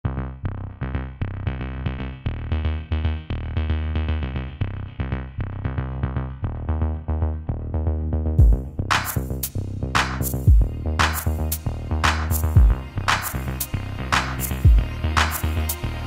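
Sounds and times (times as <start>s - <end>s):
deep steady bass: 0.0s - 16.0s
repeated synthesizer notes: 0.2s - 16.0s
electronic music: 0.3s - 16.0s.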